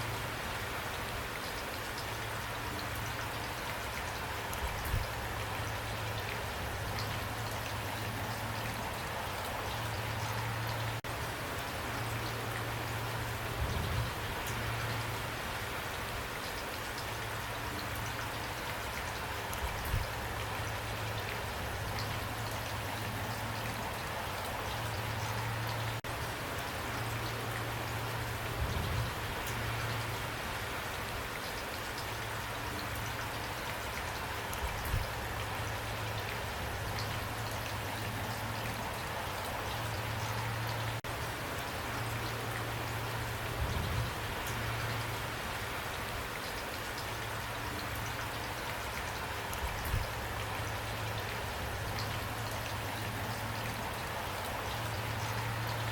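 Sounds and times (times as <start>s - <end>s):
rain patter: 0.0s - 55.9s.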